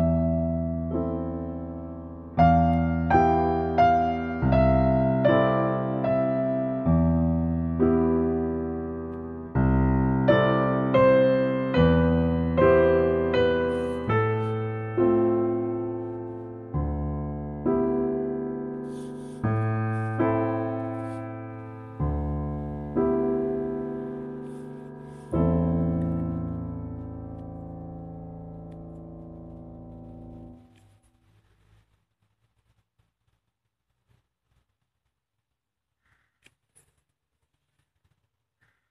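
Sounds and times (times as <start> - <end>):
slow calm piano music: 0.0 - 31.9.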